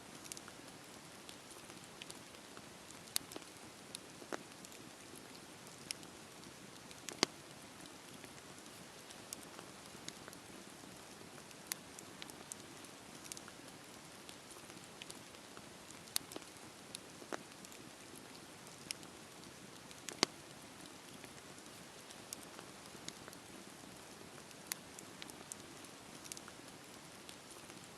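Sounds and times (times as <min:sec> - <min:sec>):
burning wood crackling: 0:00.1 - 0:27.9
campfire flames hissing: 0:00.1 - 0:27.9.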